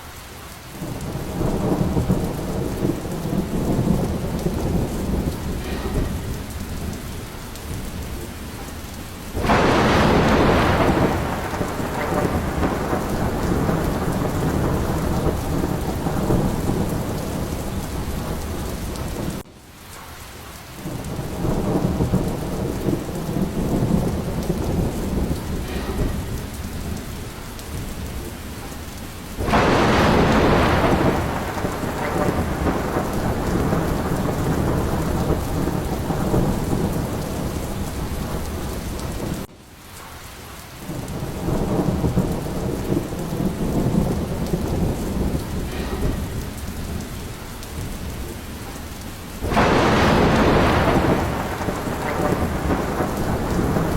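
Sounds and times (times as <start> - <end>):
steady rain: 0.0 - 53.9
rolling thunder: 0.7 - 19.5, 20.8 - 39.5, 40.8 - 53.9
sharp thunderclap: 0.8 - 19.5, 20.8 - 39.5, 40.9 - 53.9.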